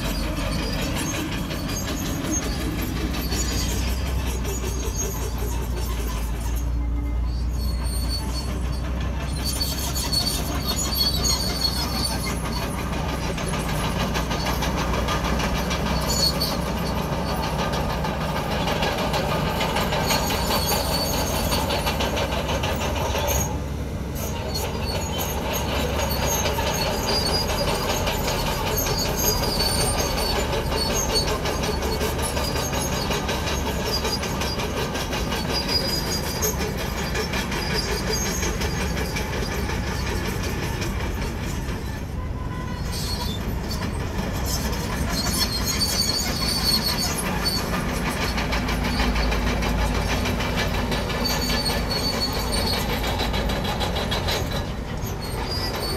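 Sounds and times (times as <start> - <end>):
bulldozer engine running: 0.0 - 55.9
steel tracks squealing and clanking: 0.0 - 55.9.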